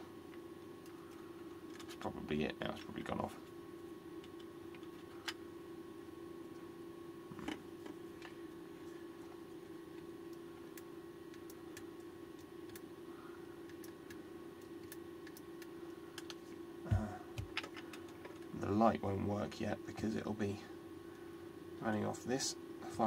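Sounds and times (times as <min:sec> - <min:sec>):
low hum: 0:00.0 - 0:19.3.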